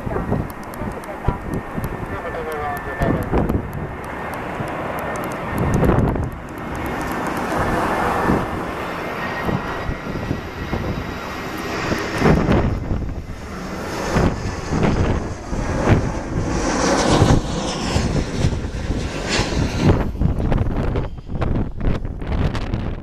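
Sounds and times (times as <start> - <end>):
jet airliner engine rumble: 0.0 - 23.0.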